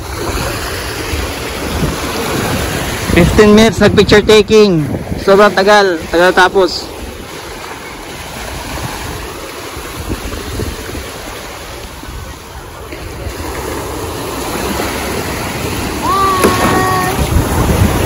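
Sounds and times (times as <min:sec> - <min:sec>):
small waves washing: 0:00.0 - 0:18.0
wind buffeting microphone: 0:00.0 - 0:18.0.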